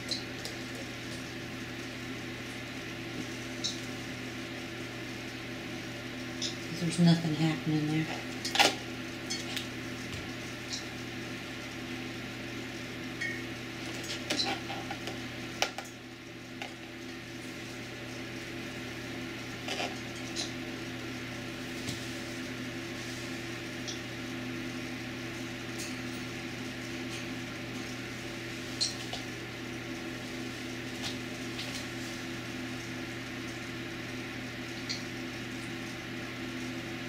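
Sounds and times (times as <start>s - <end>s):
steady electrical hum: 0.0s - 37.0s.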